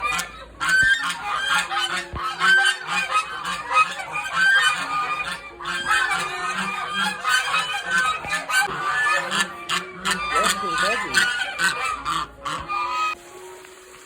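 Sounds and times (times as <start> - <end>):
waterfowl honking: 0.0 - 13.2.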